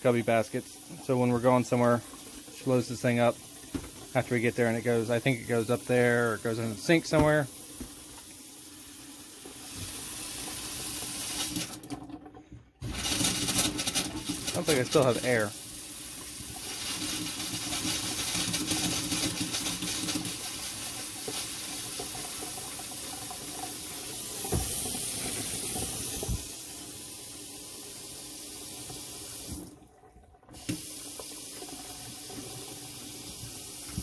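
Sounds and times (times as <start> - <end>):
faucet water splashing into sink: 0.0 - 34.0.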